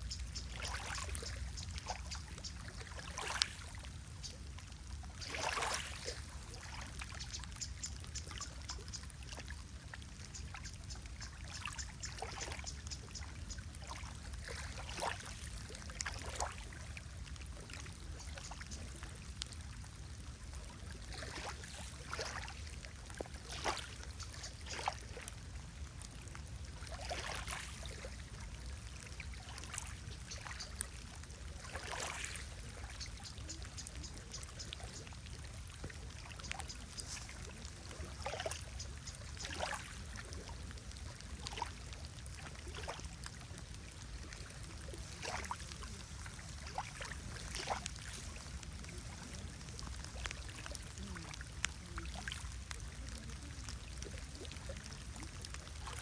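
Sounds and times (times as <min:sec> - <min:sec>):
lake water lapping and splashing: 0:00.0 - 0:56.0.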